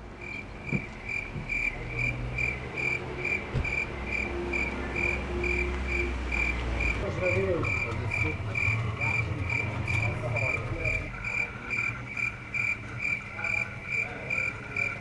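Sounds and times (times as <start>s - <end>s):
insect chirping: 0.2s - 15.0s.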